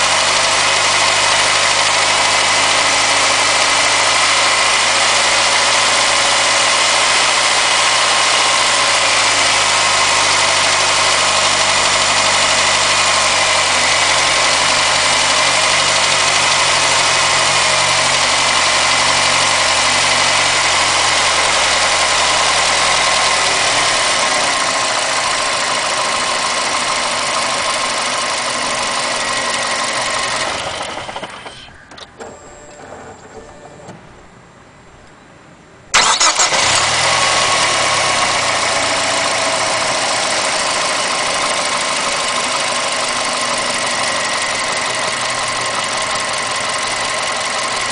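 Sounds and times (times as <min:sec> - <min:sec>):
car engine running: 0:00.0 - 0:31.7, 0:36.0 - 0:47.9.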